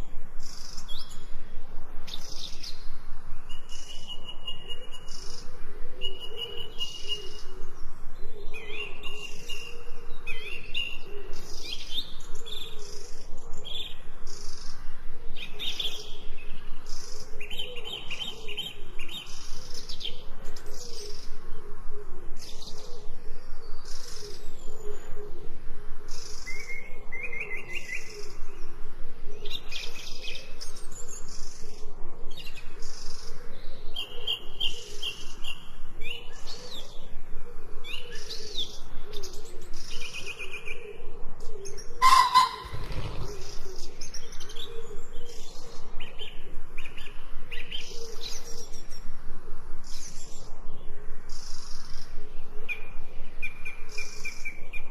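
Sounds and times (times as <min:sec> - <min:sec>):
birds chirping and trilling: 0:00.0 - 0:54.9.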